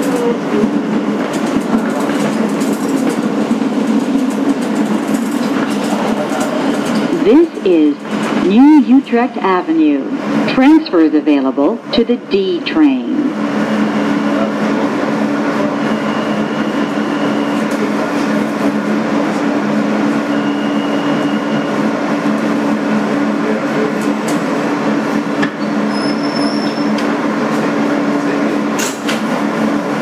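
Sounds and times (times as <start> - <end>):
subway car rumbling: 0.0 - 30.0.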